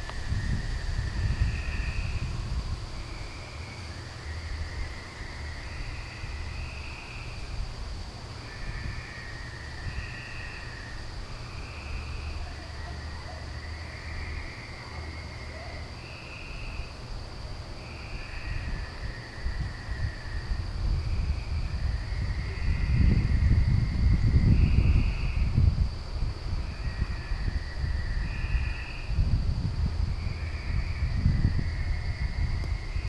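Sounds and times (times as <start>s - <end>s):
high-pitched insect trill: 0.0s - 33.0s
wind rumble on microphone: 0.0s - 33.0s.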